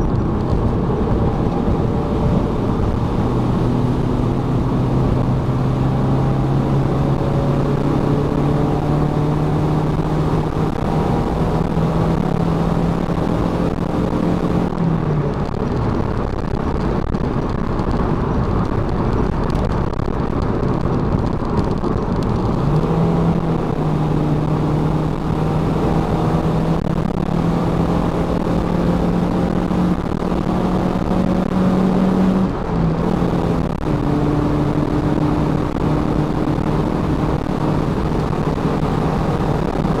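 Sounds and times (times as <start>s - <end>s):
car engine running: 0.0s - 40.0s
road and tyre noise: 0.0s - 40.0s.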